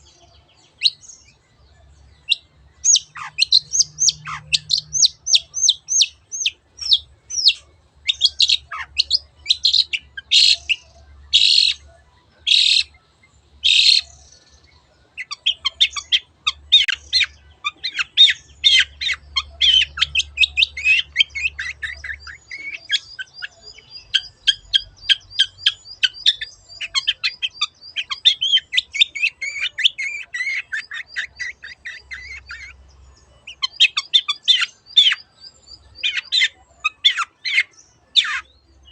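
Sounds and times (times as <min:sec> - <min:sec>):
shrike singing: 0:02.0 - 0:38.9.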